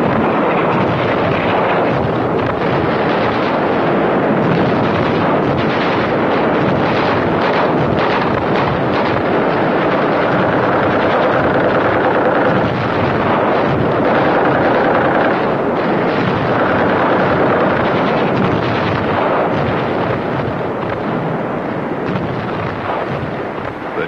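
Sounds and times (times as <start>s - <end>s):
gunfire: 0.0s - 24.0s
muffled artillery blasts: 0.0s - 24.0s
rumbling battle din: 0.0s - 24.0s.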